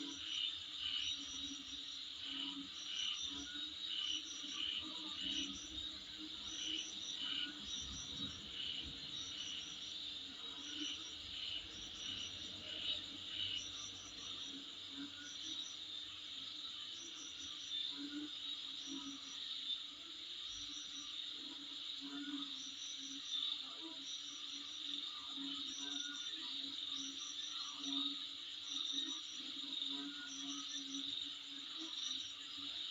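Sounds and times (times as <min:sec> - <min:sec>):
insects chirping: 0:00.0 - 0:32.9.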